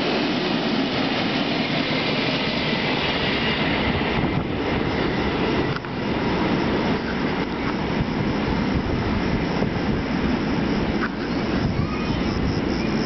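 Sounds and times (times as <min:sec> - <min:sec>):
freight train rushing rumble: 0:00.0 - 0:13.0.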